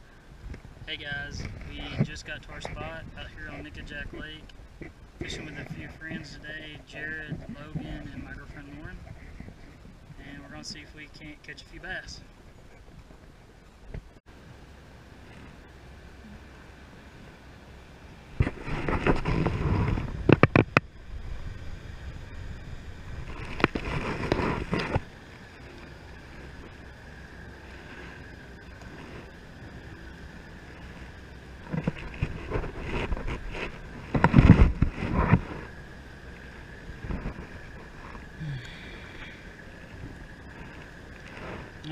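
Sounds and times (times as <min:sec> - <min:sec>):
wind buffeting microphone: 0:00.0 - 0:10.7, 0:16.4 - 0:41.9.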